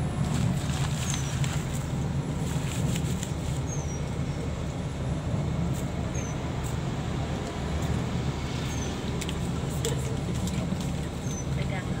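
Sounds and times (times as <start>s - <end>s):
bus engine low rumble: 0.0s - 12.0s.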